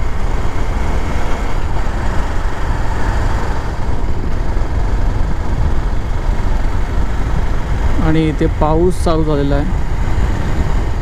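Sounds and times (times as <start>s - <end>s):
motorcycle engine and tyre noise: 0.0s - 11.0s
wind rushing on microphone: 0.0s - 11.0s.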